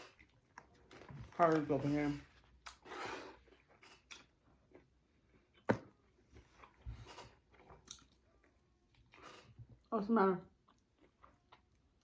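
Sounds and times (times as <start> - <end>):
soft chewing and mouth noises: 0.0 - 12.0.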